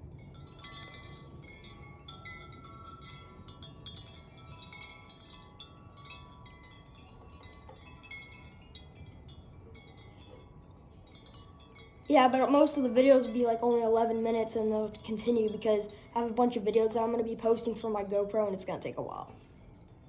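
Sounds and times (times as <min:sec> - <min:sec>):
wind chimes jangling: 0:00.0 - 0:18.1, 0:19.4 - 0:20.0.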